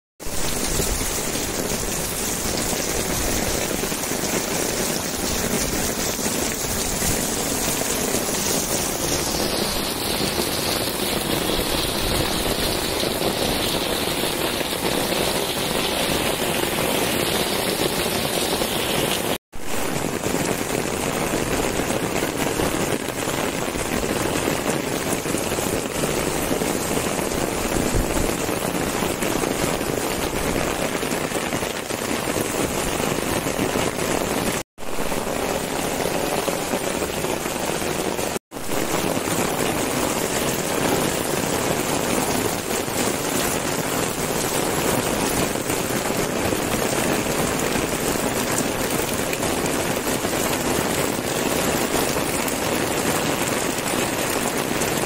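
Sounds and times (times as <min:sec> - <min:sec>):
heavy rain pouring: 0:00.2 - 0:55.0.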